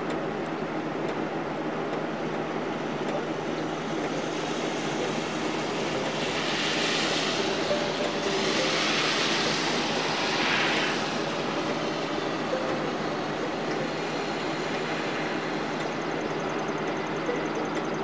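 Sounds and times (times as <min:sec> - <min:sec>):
steady rain on a wet porch: 0:00.2 - 0:17.2.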